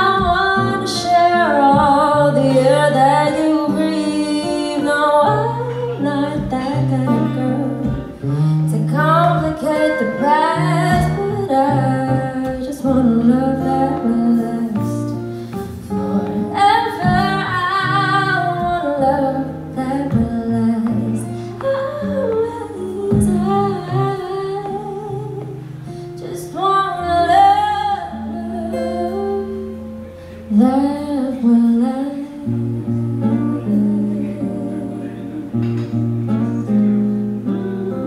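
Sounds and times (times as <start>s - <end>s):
strummed acoustic guitar: 0.0s - 38.0s
woman singing into a microphone: 0.0s - 38.0s.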